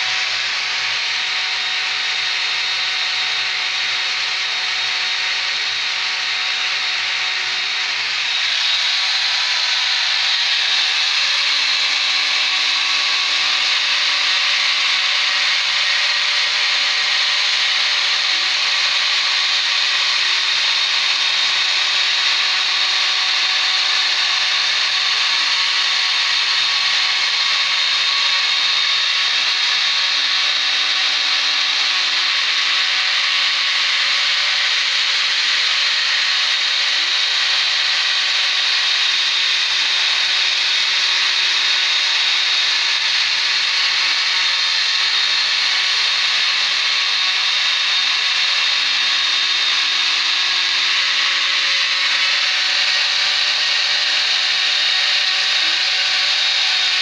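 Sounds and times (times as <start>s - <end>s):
router bit cutting wood: 0.0s - 57.0s
spindle motor running: 0.0s - 57.0s.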